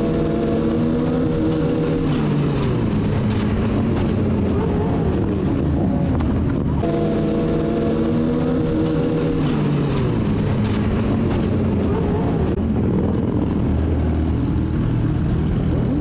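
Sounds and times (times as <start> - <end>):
motorcycle engines revving: 0.0 - 16.0
wind rush: 0.0 - 16.0.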